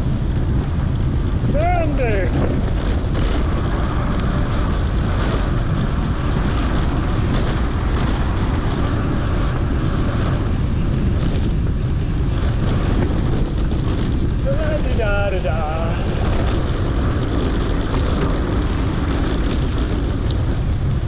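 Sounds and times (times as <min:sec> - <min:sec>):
bike tyres rumbling: 0:00.0 - 0:21.0
wind rush on microphone: 0:00.0 - 0:21.0.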